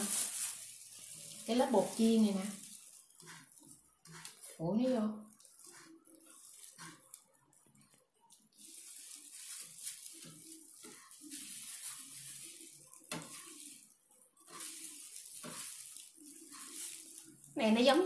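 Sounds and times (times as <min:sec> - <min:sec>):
plastic gloves rustling: 0:00.0 - 0:18.0.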